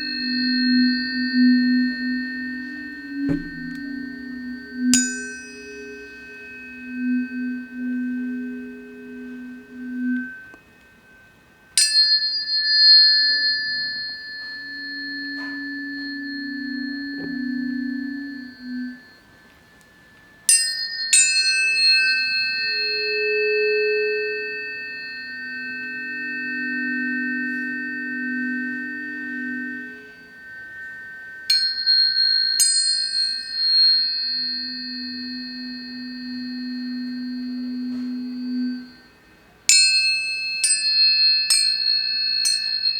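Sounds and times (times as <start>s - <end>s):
low tones: 0.0s - 42.9s
tuning forks ringing: 0.0s - 42.9s.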